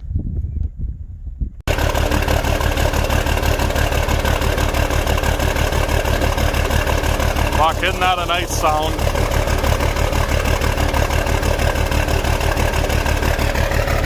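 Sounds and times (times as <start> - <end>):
engine running with fast pulse: 1.7 - 14.0.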